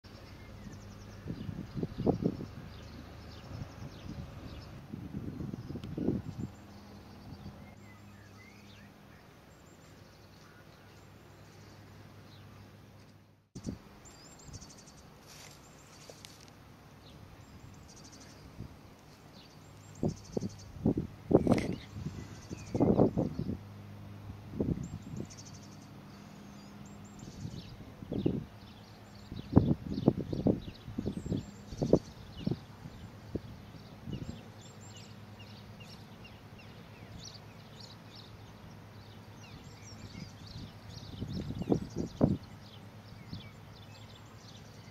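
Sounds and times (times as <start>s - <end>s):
small birds chirping: 0.0s - 23.8s, 24.6s - 44.9s
low steady hum: 0.1s - 44.9s
low steady rumble: 0.1s - 44.9s.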